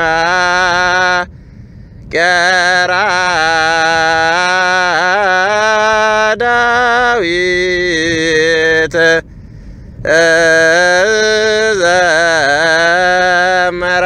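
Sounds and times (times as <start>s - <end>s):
man chanting: 0.0s - 1.3s, 2.1s - 9.2s, 10.0s - 14.0s.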